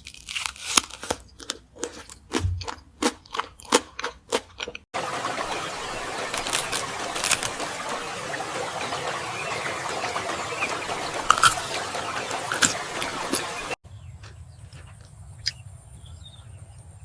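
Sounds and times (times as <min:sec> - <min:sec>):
chewing food: 0:00.0 - 0:08.1, 0:10.0 - 0:15.7.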